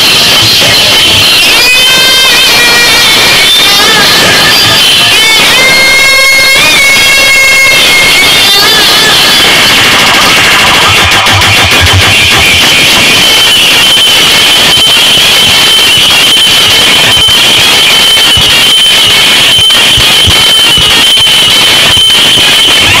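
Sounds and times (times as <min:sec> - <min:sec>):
distorted loud speaker music: 0:00.0 - 0:23.0
steady high-pitched tone: 0:00.0 - 0:23.0.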